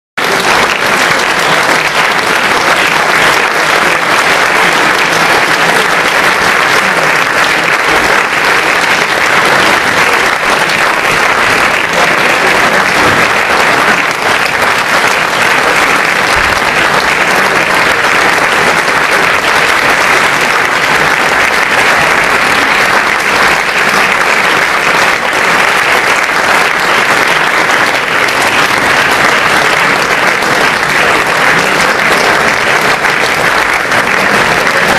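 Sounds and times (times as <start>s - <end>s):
audience applauding: 0.2s - 34.9s.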